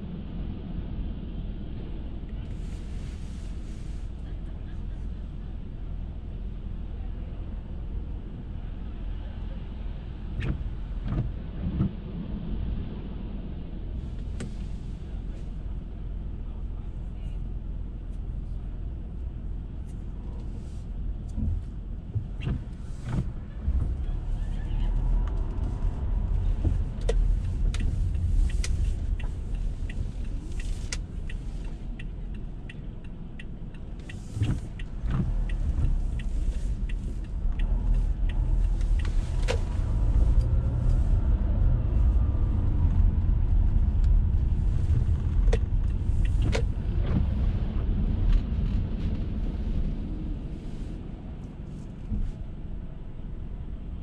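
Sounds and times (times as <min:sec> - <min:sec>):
car road rumble on wet streets: 0:00.0 - 0:54.0.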